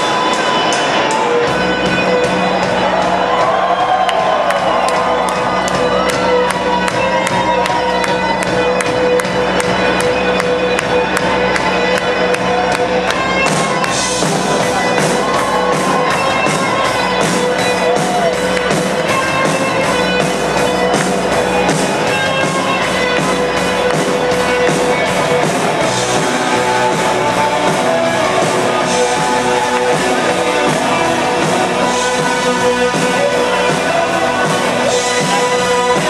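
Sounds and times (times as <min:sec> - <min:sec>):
drum kit: 0:00.0 - 0:36.0
electric guitar: 0:00.0 - 0:36.0.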